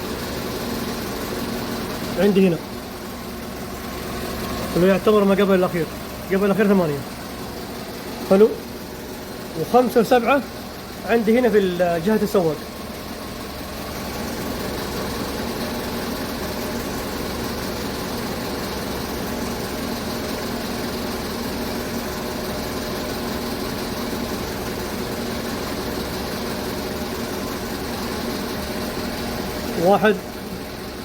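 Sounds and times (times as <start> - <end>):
car engine idling with misfire: 0.0 - 31.0.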